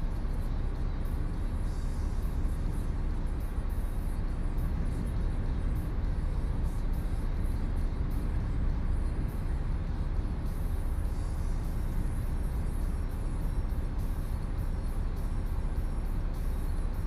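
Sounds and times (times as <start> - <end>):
wind buffeting truck cab: 0.0 - 17.0.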